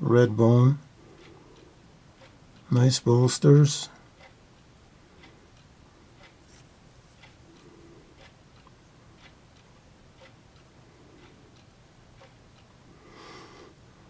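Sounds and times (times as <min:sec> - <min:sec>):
faint clock ticking: 0:00.0 - 0:14.0.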